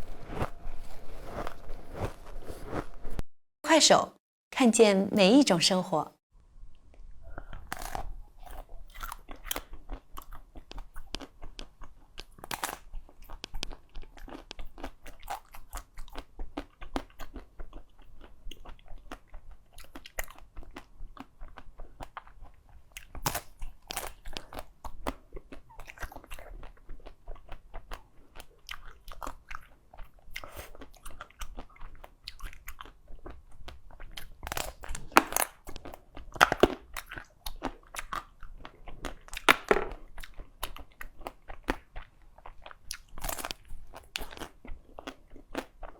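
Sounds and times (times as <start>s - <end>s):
ice being chewed: 7.4s - 45.9s.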